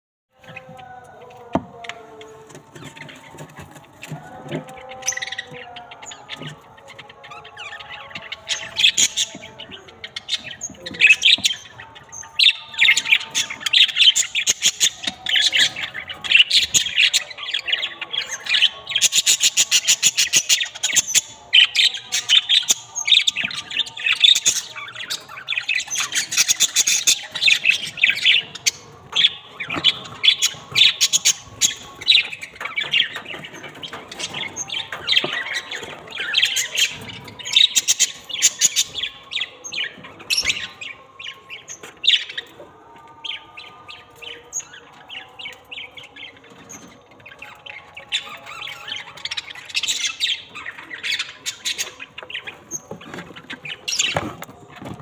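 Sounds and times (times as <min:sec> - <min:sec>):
parakeets squawking: 0:01.8 - 0:55.0.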